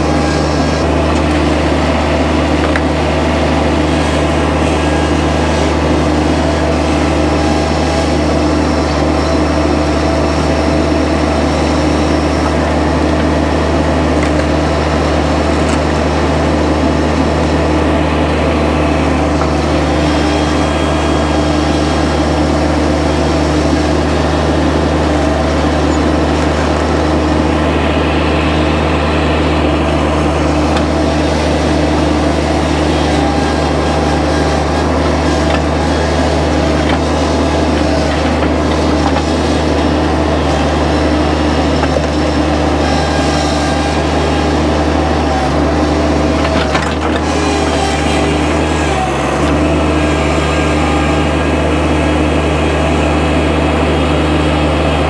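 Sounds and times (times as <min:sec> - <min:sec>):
small engine running steadily: 0:00.0 - 0:55.0.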